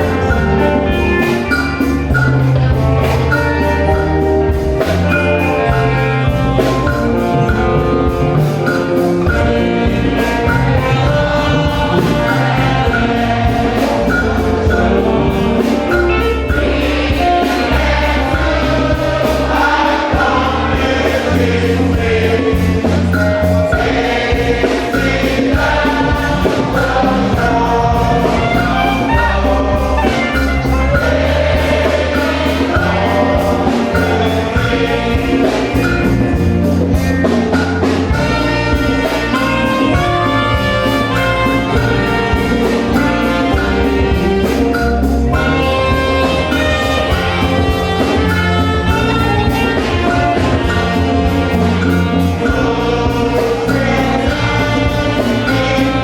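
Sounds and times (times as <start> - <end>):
choir singing gospel: 0.0 - 56.0
instrumental backing with beat: 0.0 - 56.0.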